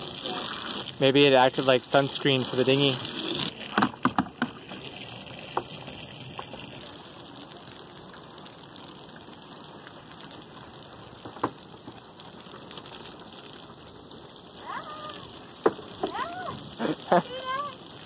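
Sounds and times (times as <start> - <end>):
hose water spraying and splashing: 0.0 - 18.0.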